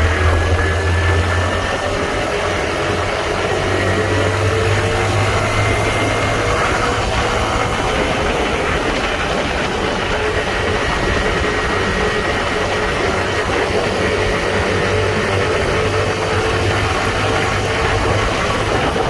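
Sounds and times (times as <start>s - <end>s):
motorcycle engine running: 0.0s - 19.0s
wind and road noise: 0.0s - 19.0s.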